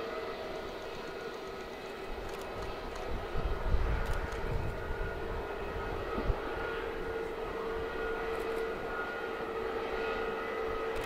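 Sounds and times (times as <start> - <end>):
jet airliner engines idling: 0.0 - 11.0.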